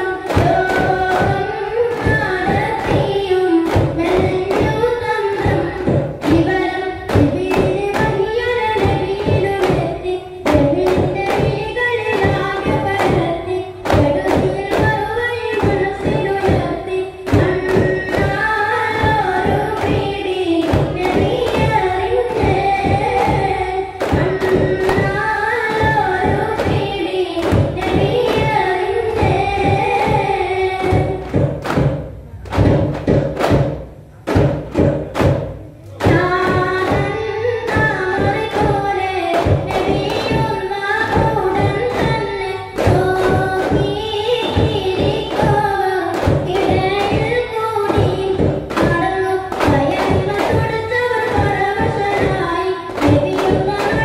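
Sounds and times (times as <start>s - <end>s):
group singing: 0.0s - 31.9s, 36.0s - 54.0s
frame drums beaten in rhythm: 0.0s - 54.0s.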